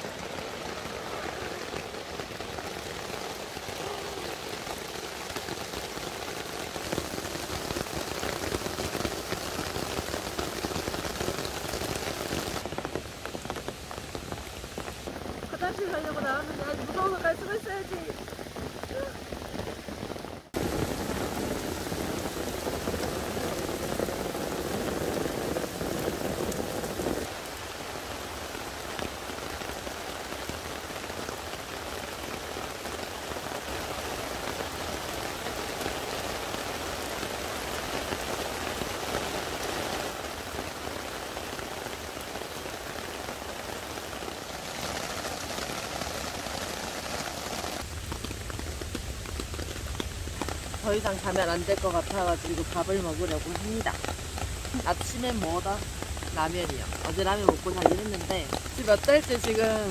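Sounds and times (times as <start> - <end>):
heavy rain on umbrella and tarp: 0.0 - 59.9.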